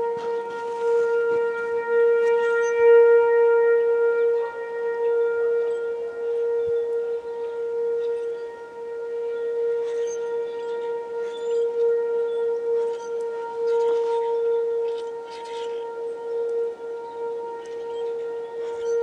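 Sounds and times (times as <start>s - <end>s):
tornado siren steady tone: 0.0s - 19.0s.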